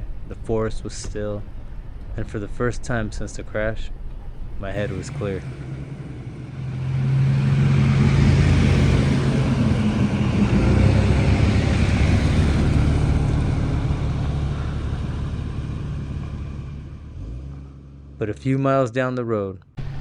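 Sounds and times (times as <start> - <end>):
off-road vehicle engine running: 0.0 - 18.6.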